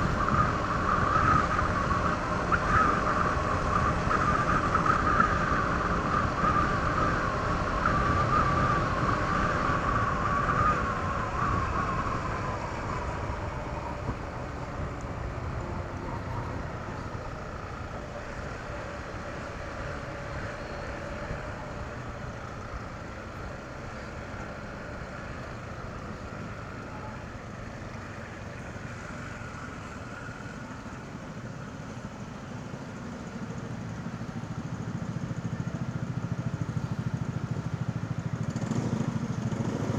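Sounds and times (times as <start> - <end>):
wavering whine: 0.0 - 32.2
road and wind noise: 0.0 - 39.9
scooter engine running: 0.0 - 39.9.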